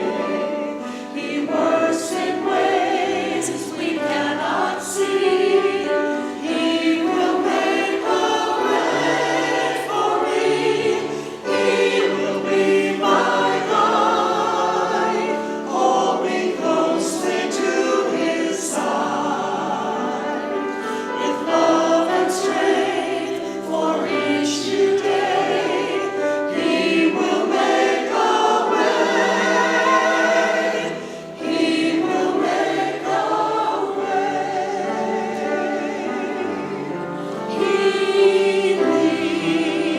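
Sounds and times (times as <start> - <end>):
choir singing a sacred song: 0.0 - 39.9.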